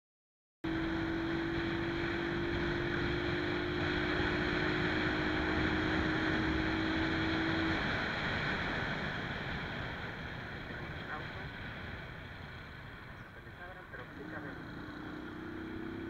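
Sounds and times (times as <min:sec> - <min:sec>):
motorcycle engine hum: 0:00.6 - 0:16.0
road noise: 0:00.6 - 0:16.0.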